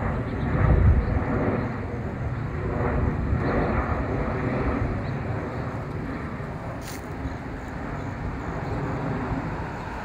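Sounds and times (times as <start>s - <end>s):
jet engines rumbling overhead: 0.0s - 10.0s.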